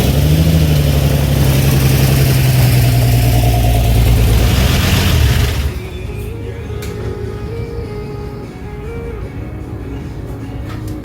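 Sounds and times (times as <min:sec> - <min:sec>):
truck engine idling unevenly: 0:00.0 - 0:11.0.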